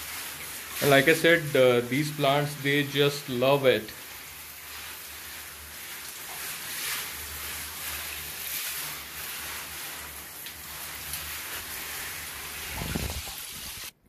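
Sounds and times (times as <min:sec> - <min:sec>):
shower spraying water: 0:00.0 - 0:14.0.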